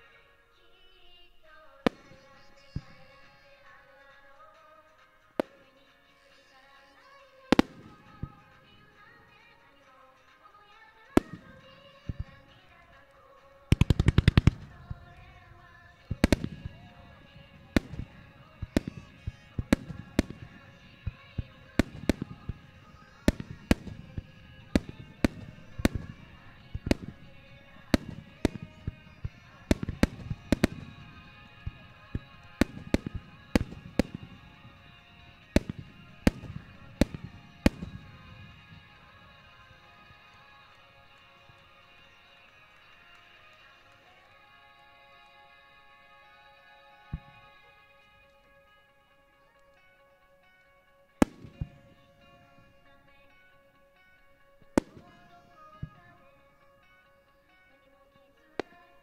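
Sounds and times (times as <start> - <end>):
music playing: 0.0 - 59.0
fireworks bangs: 1.3 - 44.2, 47.1 - 48.2, 51.2 - 57.0, 58.5 - 59.0.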